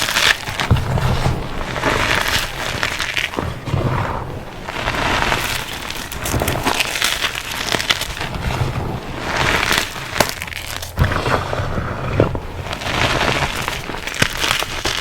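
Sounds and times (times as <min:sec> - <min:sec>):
chalk blocks crunching and snapping: 0:00.0 - 0:15.0.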